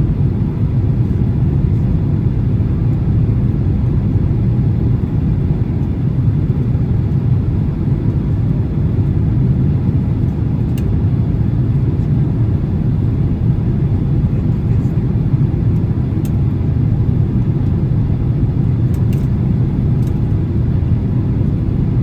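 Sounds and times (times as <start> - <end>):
jet engine and airflow in cabin: 0.0 - 22.0.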